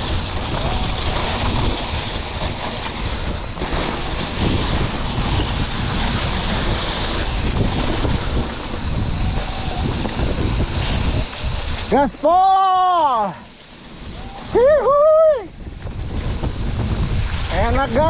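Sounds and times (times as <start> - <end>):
bike rattling over rough ground: 0.0 - 14.6, 15.5 - 18.0
wind rushing over microphone: 0.0 - 18.0.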